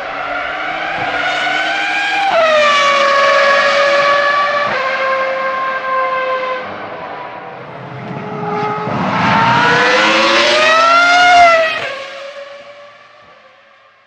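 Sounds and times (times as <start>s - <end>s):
racing car engine at high revs: 0.0s - 13.8s.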